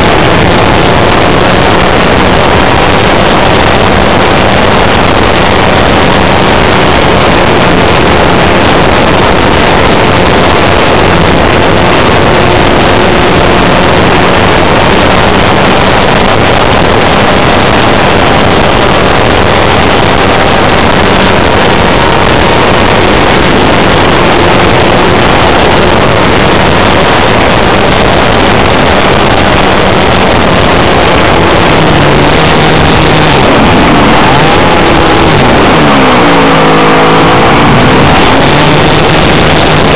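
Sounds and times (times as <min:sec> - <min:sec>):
model aircraft engine running: 0:00.0 - 0:39.9
wind noise rushing: 0:00.0 - 0:39.9.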